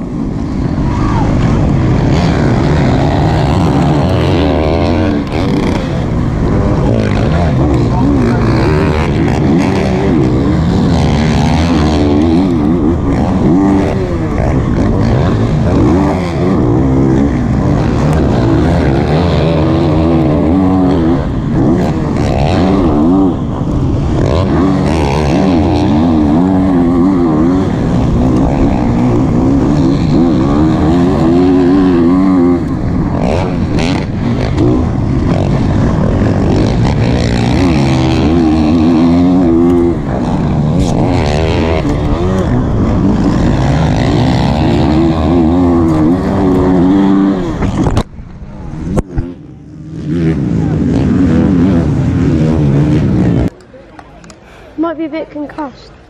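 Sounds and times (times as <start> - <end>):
motocross bike engine revving: 0.0 - 53.6.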